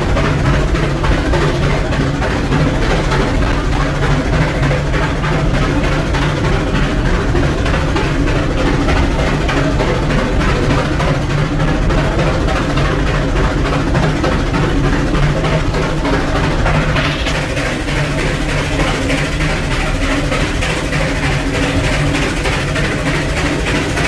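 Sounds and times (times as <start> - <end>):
steam locomotive puffing: 0.0 - 24.0.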